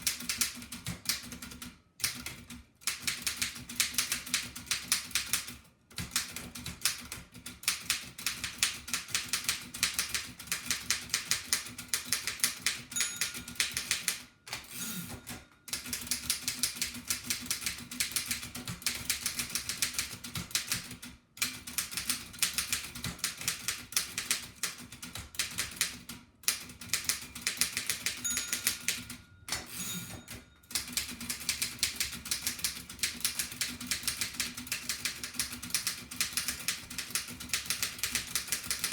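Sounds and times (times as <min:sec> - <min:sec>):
typewriter typing: 0:00.0 - 0:38.9.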